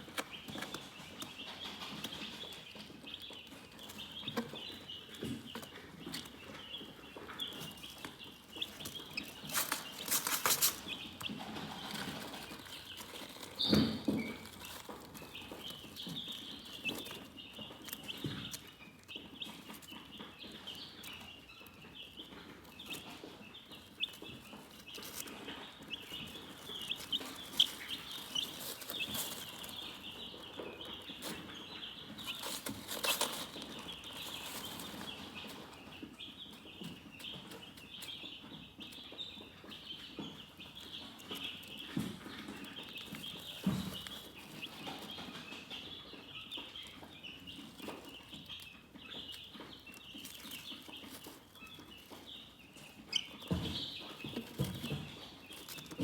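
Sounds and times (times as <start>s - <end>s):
rustling: 0.0s - 38.1s, 39.9s - 56.0s
chickens chirping: 0.0s - 56.0s.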